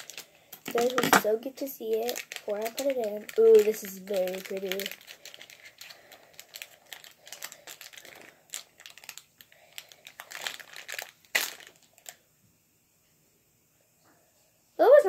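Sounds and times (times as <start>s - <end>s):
wrapper crinkling: 0.0s - 12.2s.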